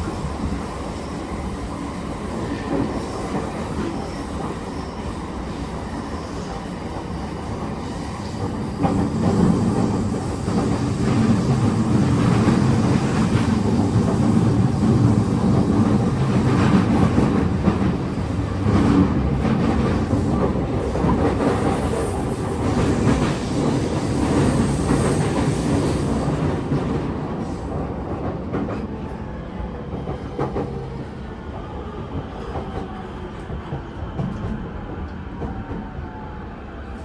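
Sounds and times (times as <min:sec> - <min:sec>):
train wheels rumbling on rails: 0:00.0 - 0:36.1.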